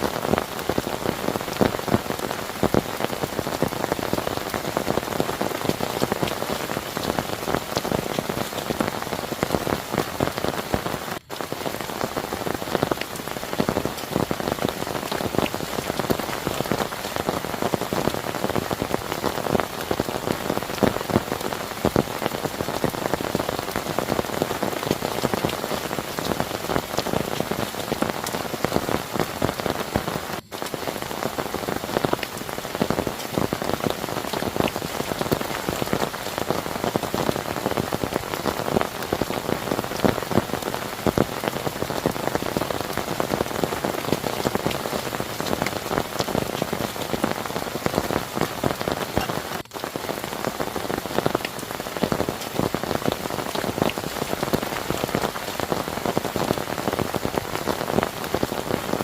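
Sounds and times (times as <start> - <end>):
heavy rain falling: 0.0 - 59.0
raindrops striking close by: 0.0 - 59.0.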